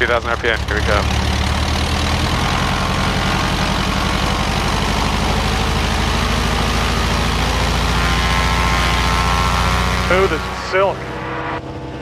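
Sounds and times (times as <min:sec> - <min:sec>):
aircraft piston engine running: 0:00.0 - 0:12.0.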